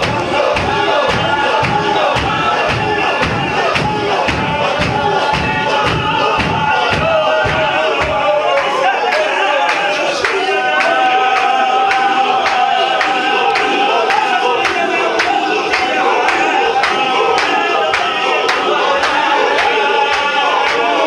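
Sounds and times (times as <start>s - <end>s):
long held sung line: 0.0s - 21.0s
men chanting in unison: 0.0s - 21.0s.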